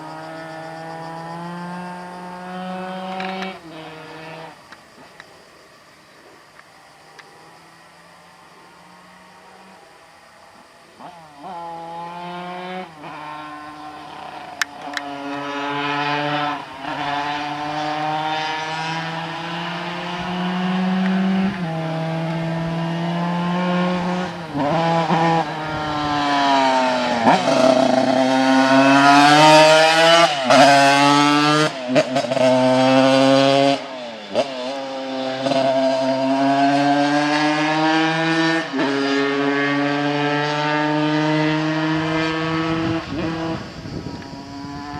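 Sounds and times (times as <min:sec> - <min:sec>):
moped engine accelerating: 0:00.0 - 0:05.1, 0:10.9 - 0:44.9.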